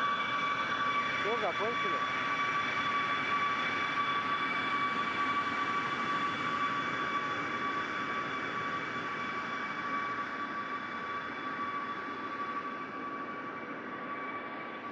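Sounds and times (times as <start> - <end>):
jet airliner turbines whining: 0.0 - 14.9.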